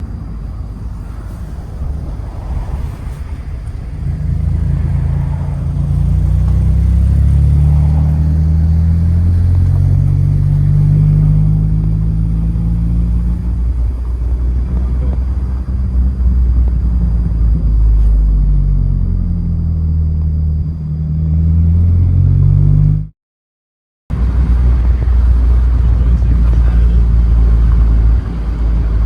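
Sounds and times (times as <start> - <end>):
vehicle engine rumbling: 0.0 - 23.1, 24.1 - 29.0.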